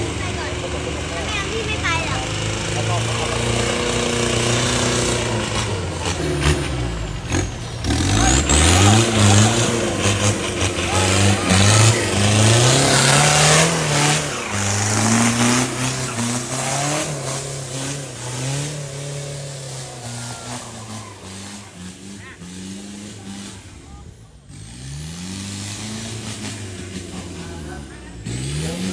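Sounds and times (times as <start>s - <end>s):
pickup engine revving: 0.0s - 28.9s.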